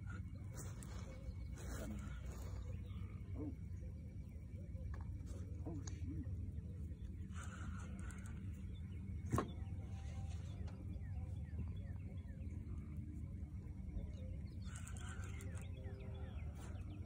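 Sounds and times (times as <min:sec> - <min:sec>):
steady low hum: 0:00.0 - 0:17.0
wild birds chirping: 0:00.0 - 0:17.0.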